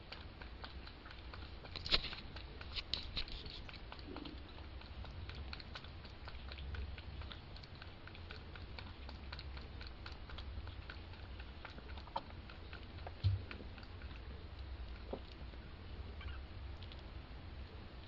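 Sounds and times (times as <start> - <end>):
kitten paws pattering and scratching: 0.0 - 15.6.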